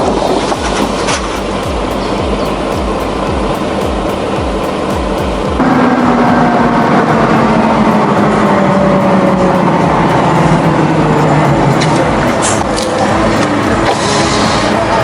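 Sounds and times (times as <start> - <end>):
truck engine under load: 0.0 - 15.0.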